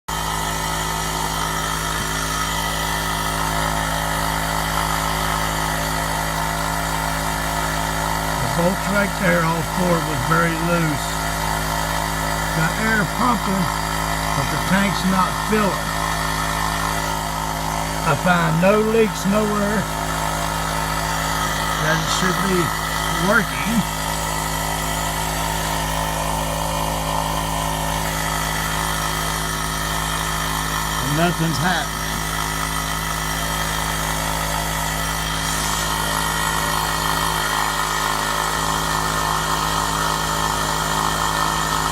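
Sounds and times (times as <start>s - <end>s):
air compressor pump humming: 0.1s - 41.9s.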